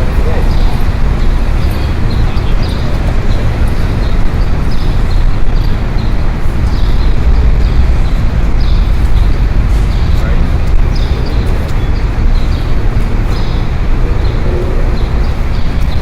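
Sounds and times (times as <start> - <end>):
passing cars rumbling: 0.0 - 16.0.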